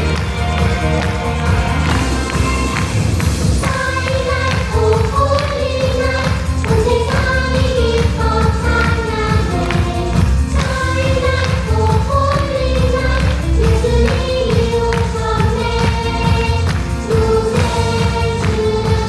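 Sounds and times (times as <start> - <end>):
band accompaniment with percussion: 0.0 - 19.0
group singing: 0.0 - 19.0.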